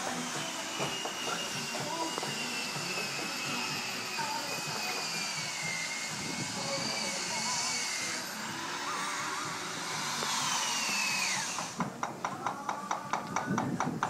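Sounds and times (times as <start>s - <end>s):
power tool hissing: 0.0s - 13.4s.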